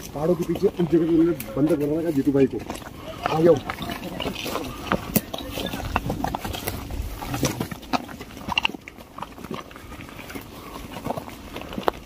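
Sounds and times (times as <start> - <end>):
footsteps crunching on stones: 0.0 - 12.0.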